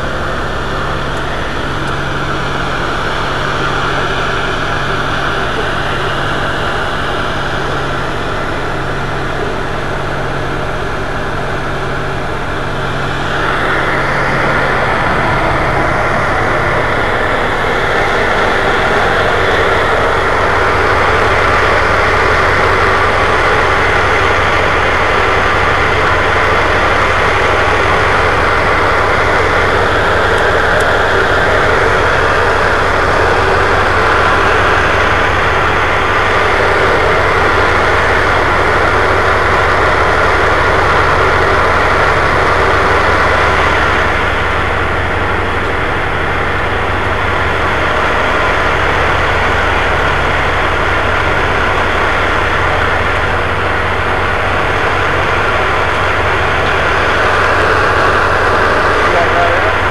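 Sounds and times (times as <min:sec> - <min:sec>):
diesel boat engine droning: 0:00.0 - 0:59.9.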